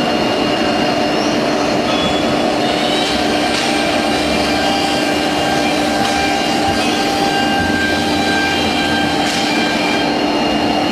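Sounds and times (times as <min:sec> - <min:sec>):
wood router humming and whining: 0:00.0 - 0:10.9.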